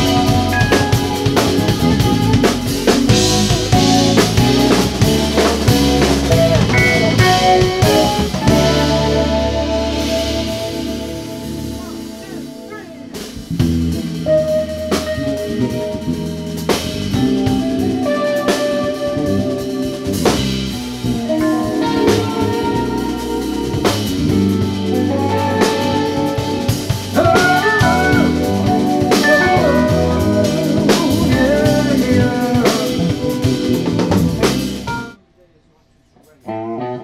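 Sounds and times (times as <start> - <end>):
electric guitar lead line: 0.0 - 35.2, 36.5 - 37.0
jazz fusion band playing: 0.0 - 35.2.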